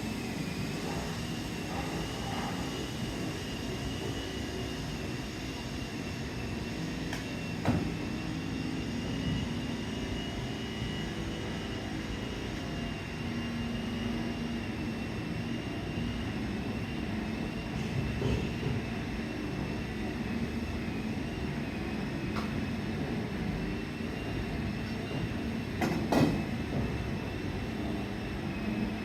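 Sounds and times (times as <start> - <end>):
machinery engine drone: 0.0 - 29.0.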